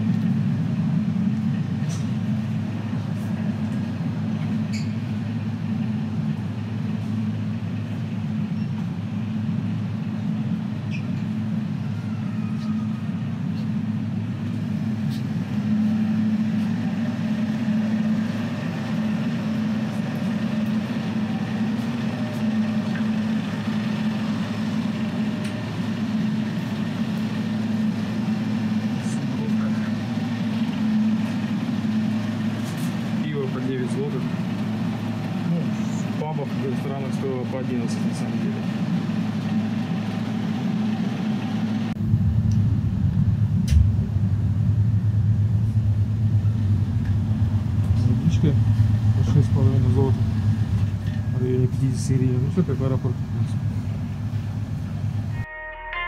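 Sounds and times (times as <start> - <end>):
low droning hum: 0.0 - 55.5.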